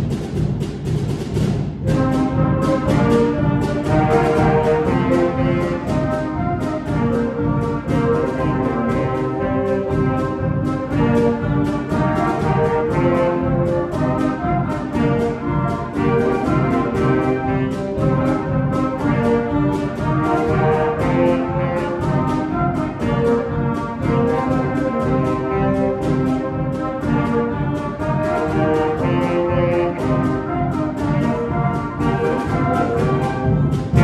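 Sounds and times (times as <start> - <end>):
concert band playing: 0.0 - 34.0
steady drum beat: 0.0 - 34.0.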